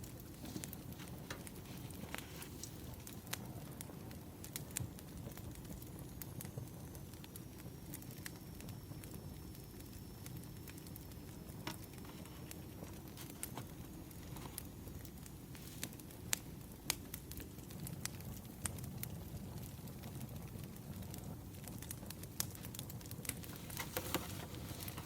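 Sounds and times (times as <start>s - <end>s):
firewood crackling: 0.0s - 25.0s
sharp pops of fire: 0.0s - 25.0s.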